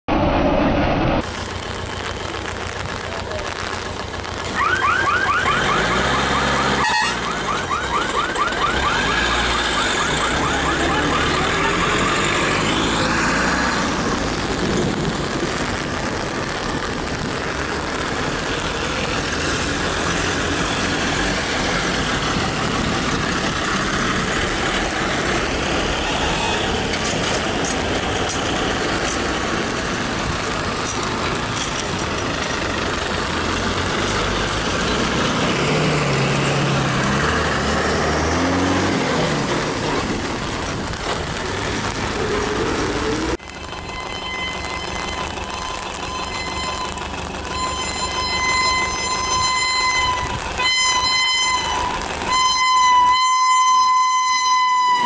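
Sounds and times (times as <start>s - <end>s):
vehicles driving over rails: 0.9s - 55.0s.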